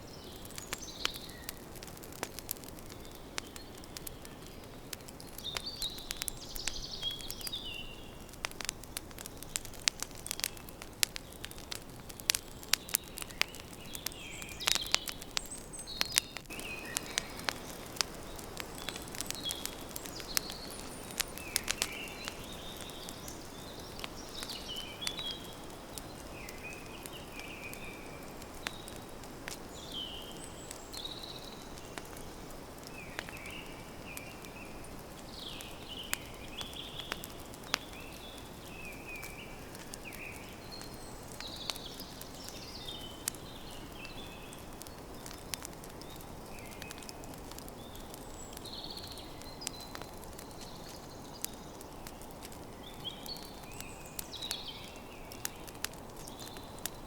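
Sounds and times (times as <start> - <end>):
campfire crackling and popping: 0.0 - 57.0
songbird chirping: 2.8 - 56.8.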